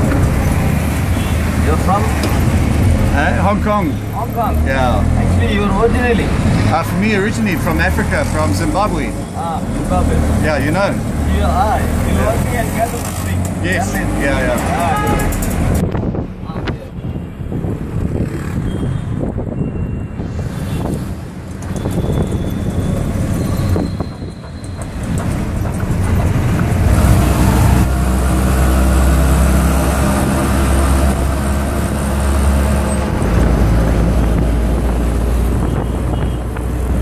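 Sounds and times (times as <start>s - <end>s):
auto-rickshaw engine: 0.0s - 37.0s
road and traffic noise: 0.0s - 37.0s.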